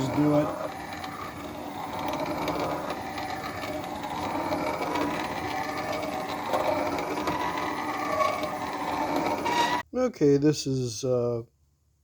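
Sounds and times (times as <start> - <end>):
machine whirring with whine: 0.0 - 9.8.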